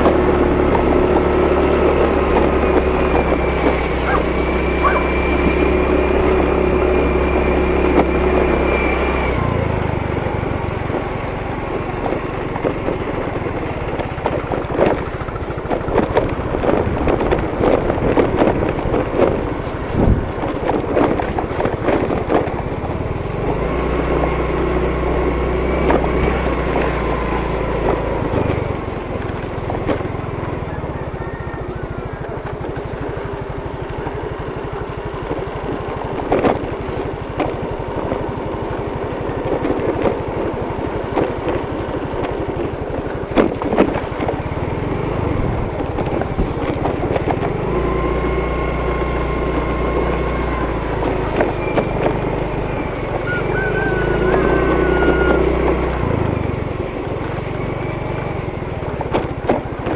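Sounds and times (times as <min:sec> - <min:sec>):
wind noise on microphone: 0:00.0 - 0:33.0, 0:34.4 - 0:59.9
motorcycle engine running: 0:00.0 - 0:59.9.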